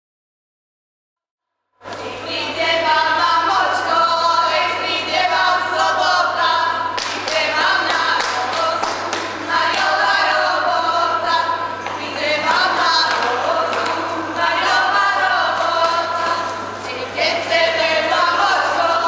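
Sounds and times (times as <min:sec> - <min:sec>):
choir singing: 0:01.8 - 0:19.0.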